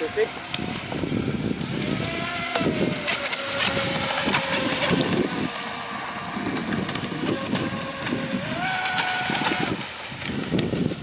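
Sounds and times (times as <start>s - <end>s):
electric motor whine: 0.0s - 11.0s
wind rumbling on microphone: 0.0s - 11.0s.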